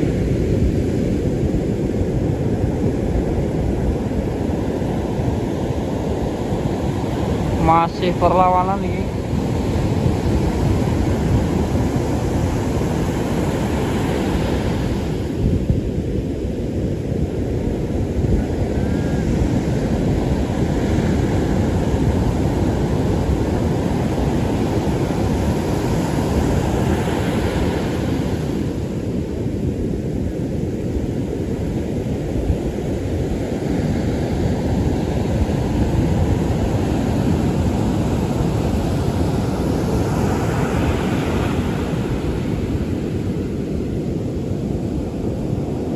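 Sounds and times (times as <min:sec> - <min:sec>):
heavy surf breaking: 0:00.0 - 0:45.9
wind rumble on microphone: 0:00.0 - 0:45.9.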